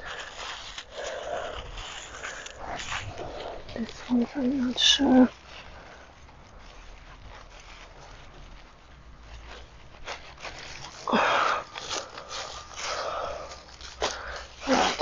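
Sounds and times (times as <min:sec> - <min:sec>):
dry leaves rustling and crunching: 0:00.0 - 0:15.0.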